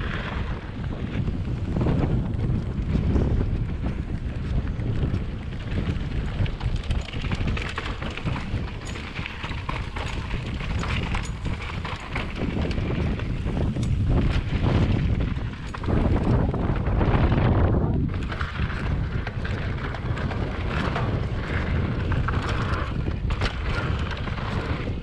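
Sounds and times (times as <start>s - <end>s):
bike rattling and clicking: 0.0s - 25.0s
tyres rolling over gravel: 0.0s - 25.0s
wind buffeting microphone: 0.0s - 25.0s.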